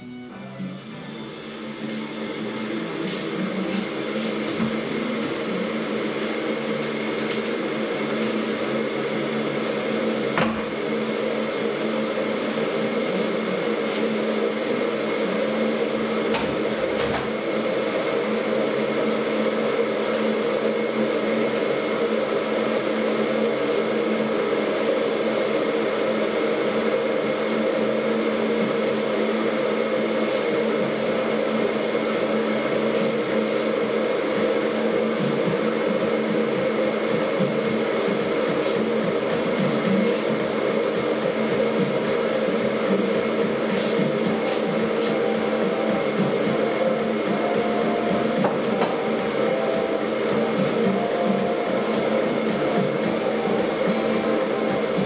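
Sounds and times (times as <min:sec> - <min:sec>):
appliance motor humming: 0:00.0 - 0:55.0.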